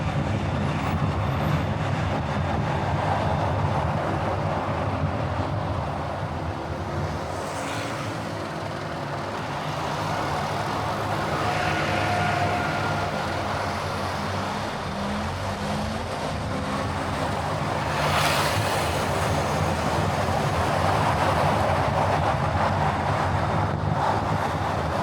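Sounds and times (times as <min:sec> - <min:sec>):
car engine drone: 0:00.0 - 0:25.0
road and tyre noise: 0:00.0 - 0:25.0.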